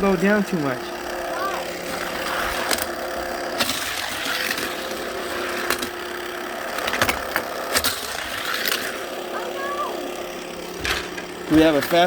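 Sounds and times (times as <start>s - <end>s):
plastic toy cars clacking: 0.0s - 12.0s
toy race track whirring: 0.0s - 12.0s.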